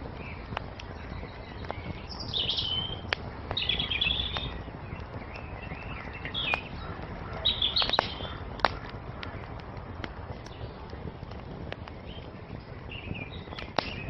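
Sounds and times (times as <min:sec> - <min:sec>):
songbirds chirping: 0:00.0 - 0:14.0
wood fire crackling and popping: 0:00.0 - 0:14.0.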